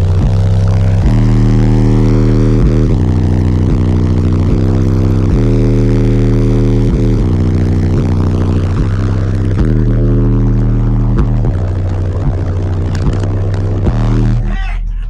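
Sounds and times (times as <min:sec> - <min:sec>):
deep bass notes from subwoofers: 0:00.0 - 0:15.0.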